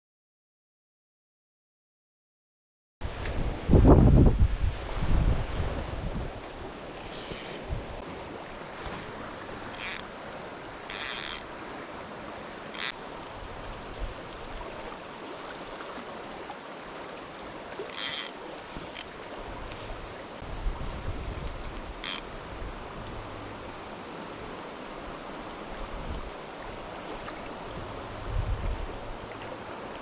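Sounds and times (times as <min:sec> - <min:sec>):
river rushing: 0:04.6 - 0:30.0.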